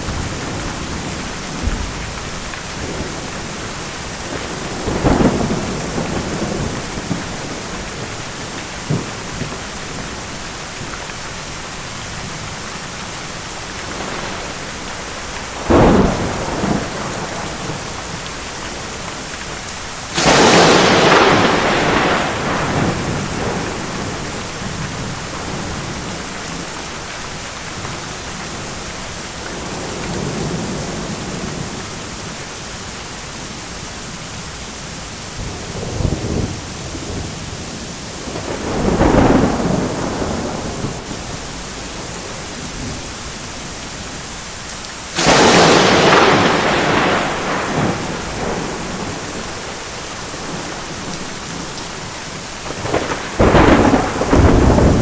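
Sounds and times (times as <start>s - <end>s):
thunder claps and rumble: 0.0s - 32.4s, 35.3s - 55.0s
heavy rain: 0.0s - 55.0s.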